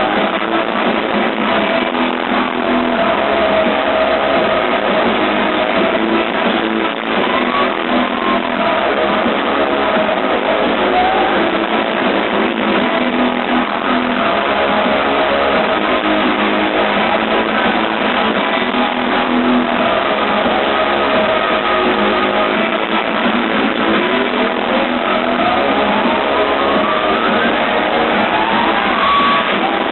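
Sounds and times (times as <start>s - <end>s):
electronic bass music: 0.0s - 29.9s.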